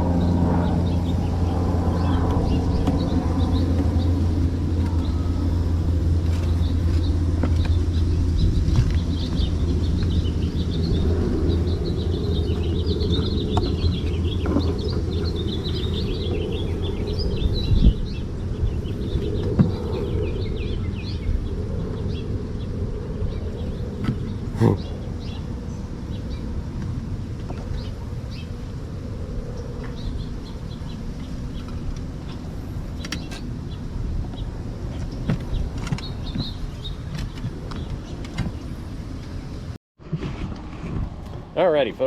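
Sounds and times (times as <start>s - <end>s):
small birds chirping: 0.0s - 39.7s
low mechanical hum: 0.0s - 41.9s.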